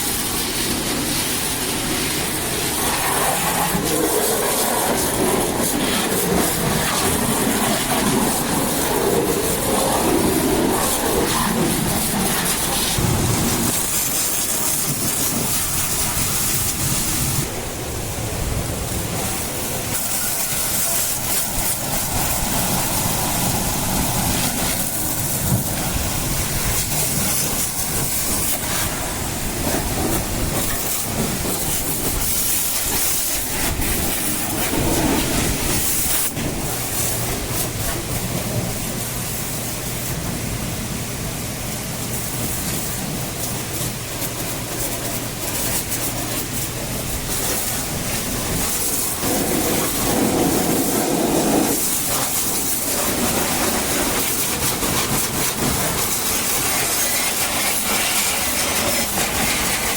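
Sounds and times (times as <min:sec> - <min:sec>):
pressure washer spraying metal: 0:00.0 - 0:59.9.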